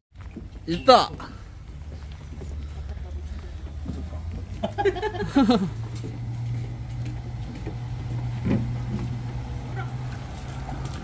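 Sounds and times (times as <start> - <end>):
low engine hum: 1.2 - 11.0.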